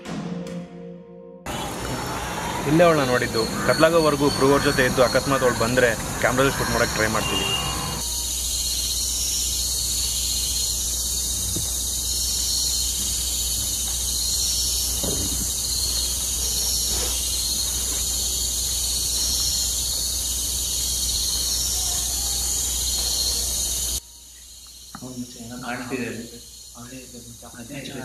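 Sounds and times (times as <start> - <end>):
crickets and insects trilling: 1.5 - 28.0.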